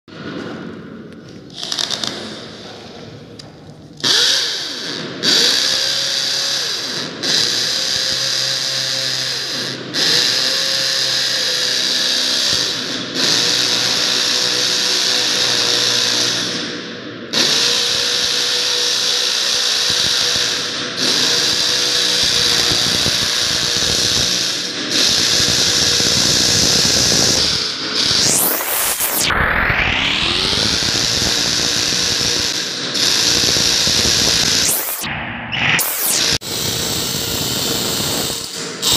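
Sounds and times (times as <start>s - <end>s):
hammer drill boring into concrete: 1.4s - 3.0s, 4.0s - 38.9s.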